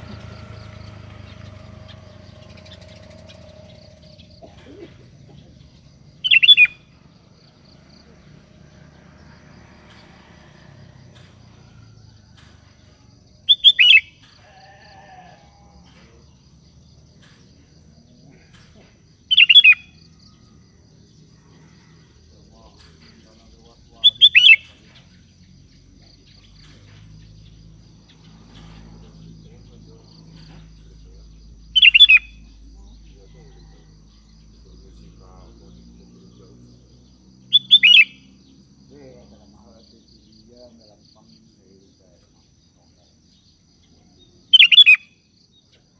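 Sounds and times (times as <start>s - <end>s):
bulbul calling: 0.0s - 8.3s, 11.0s - 14.8s, 15.9s - 20.6s, 21.4s - 45.9s
bird chirping: 0.0s - 45.9s.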